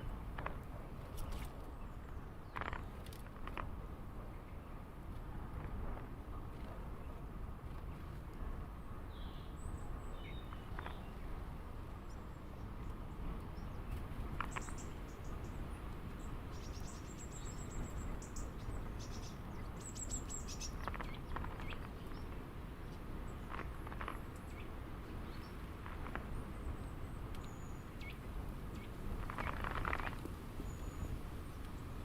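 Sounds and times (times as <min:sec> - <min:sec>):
small birds chirping: 0:00.0 - 0:04.9, 0:08.7 - 0:32.0.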